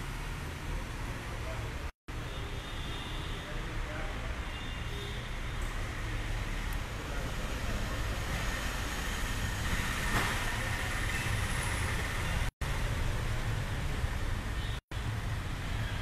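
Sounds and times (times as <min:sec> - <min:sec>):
traffic rumble and hiss: 0:00.0 - 0:16.0.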